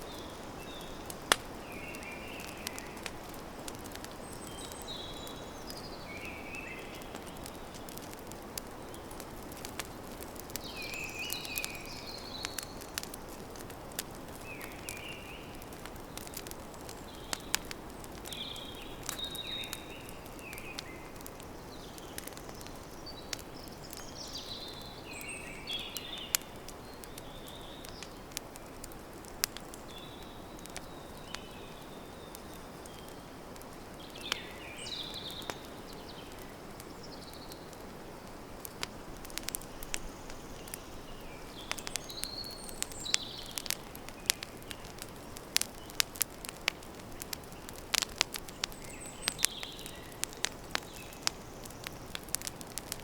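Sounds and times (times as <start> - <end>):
campfire crackling and popping: 0.0 - 53.0
small birds chirping: 0.0 - 53.0.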